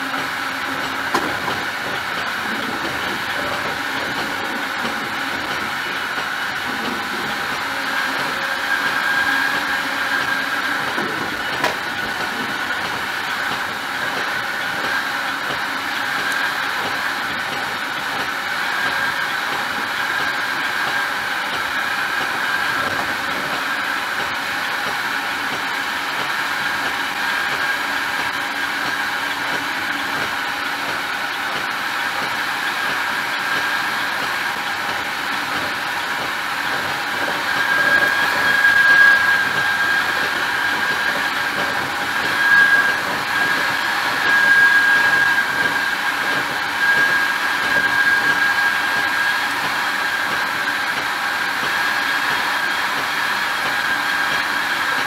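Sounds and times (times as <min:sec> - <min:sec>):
train rumble and rail noise: 0:00.0 - 0:55.0.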